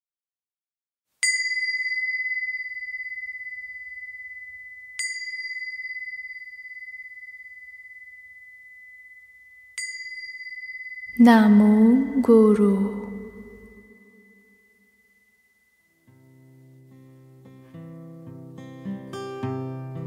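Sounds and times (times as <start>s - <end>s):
small high-pitched bell ringing: 1.2s - 17.5s.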